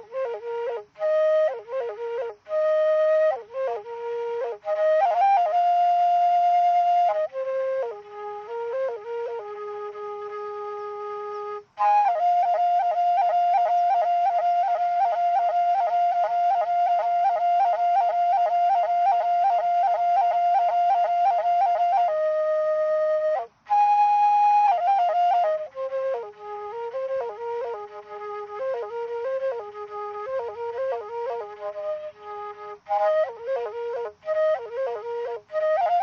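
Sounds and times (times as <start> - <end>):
woodwind melody: 0.0 - 36.0.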